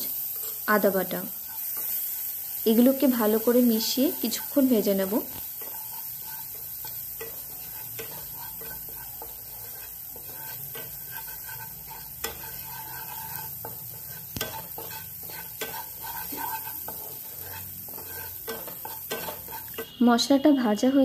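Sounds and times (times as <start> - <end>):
spices sizzling in hot oil: 0.0 - 21.0
spatula scraping and clicking on pan: 0.1 - 0.7, 1.4 - 2.6, 4.1 - 20.0.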